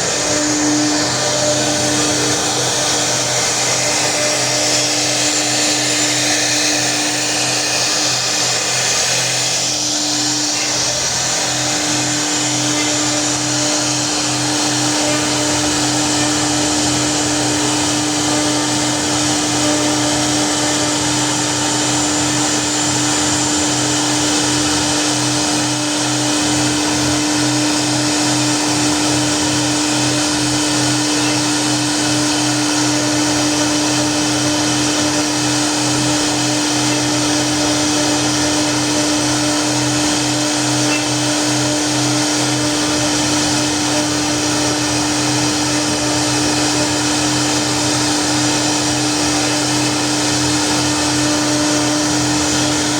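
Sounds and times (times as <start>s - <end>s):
router spindle humming: 0.0s - 52.9s.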